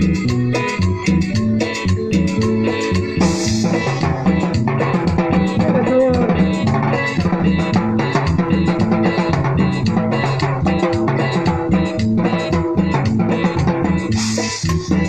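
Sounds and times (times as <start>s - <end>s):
drums playing steady rhythm: 0.0s - 15.0s
electronic keyboards playing: 0.0s - 15.0s.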